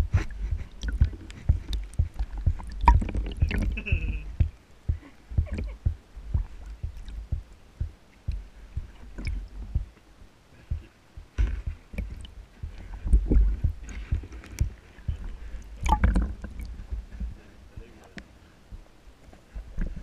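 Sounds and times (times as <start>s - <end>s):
water sloshing and gurgling: 0.0s - 10.0s, 10.6s - 18.0s
muffled thumps and splashes: 0.0s - 20.0s.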